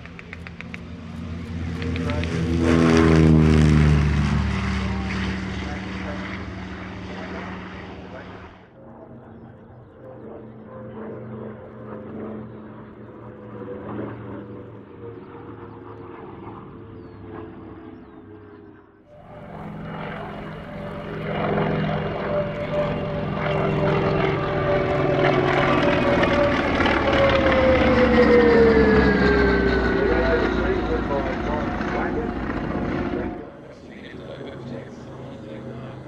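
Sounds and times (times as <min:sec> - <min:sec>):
propeller aircraft flying past: 0:00.0 - 0:36.0.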